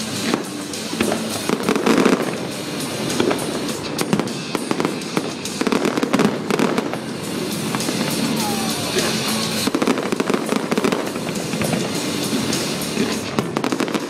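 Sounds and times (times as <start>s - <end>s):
firework shells bursting: 0.0s - 14.0s
fireworks crackling: 0.0s - 14.0s.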